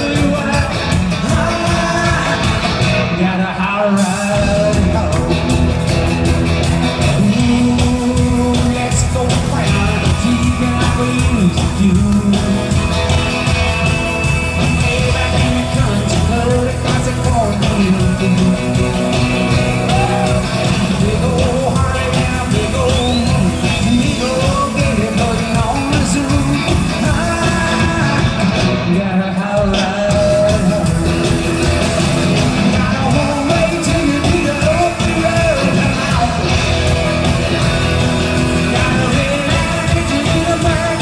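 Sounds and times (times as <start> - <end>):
person singing: 0.0 - 5.9, 6.9 - 41.0
live rock band playing: 0.0 - 41.0.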